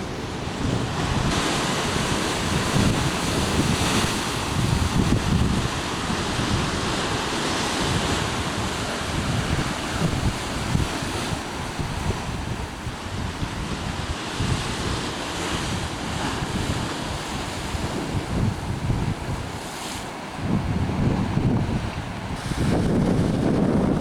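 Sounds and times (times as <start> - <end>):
waves washing: 0.0 - 24.0
wind buffeting microphone: 0.0 - 24.0.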